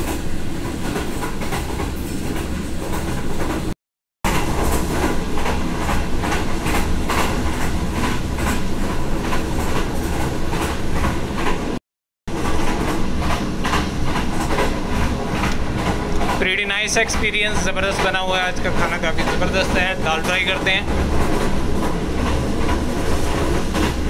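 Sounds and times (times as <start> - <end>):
train running on track: 0.0 - 24.0.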